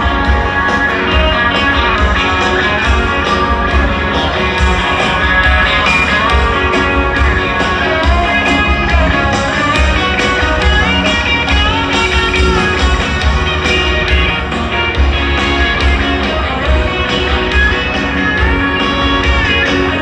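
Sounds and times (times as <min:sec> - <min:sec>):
drum beat: 0:00.0 - 0:20.0
live rock band: 0:00.0 - 0:20.0.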